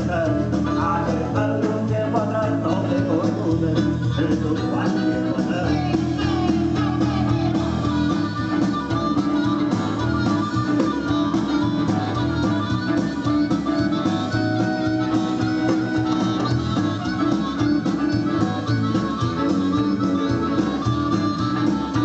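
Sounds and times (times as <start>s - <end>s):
blues-rock band playing: 0.0s - 22.0s
lead guitar: 0.0s - 22.0s.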